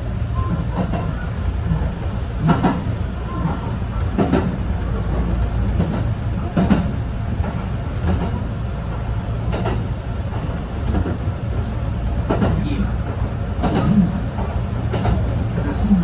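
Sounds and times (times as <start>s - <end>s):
train wheels and motors rumbling: 0.0s - 16.0s
wheels clacking over rail joints: 0.5s - 15.8s.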